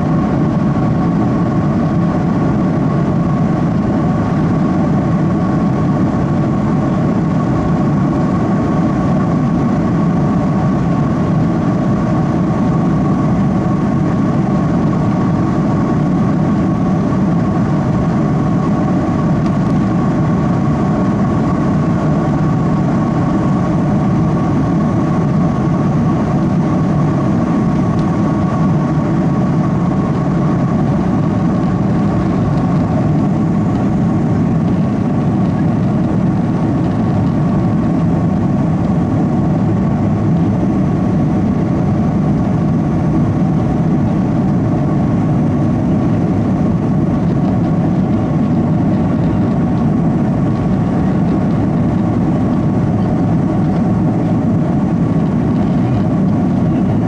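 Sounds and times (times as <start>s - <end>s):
high engine whine: 0.0s - 57.0s
jet engine roar: 0.0s - 57.0s.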